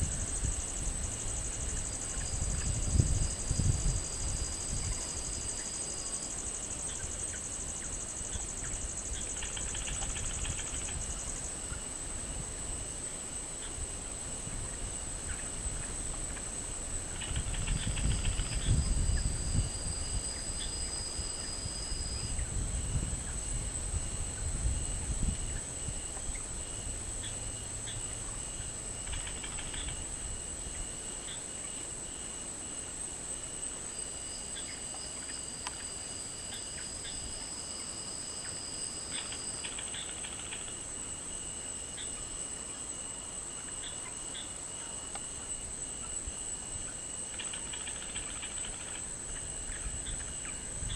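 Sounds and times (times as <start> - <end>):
crickets trilling: 0.0 - 50.9
pulsing insect chirp: 0.0 - 50.9
shrill insect trill: 0.0 - 50.9.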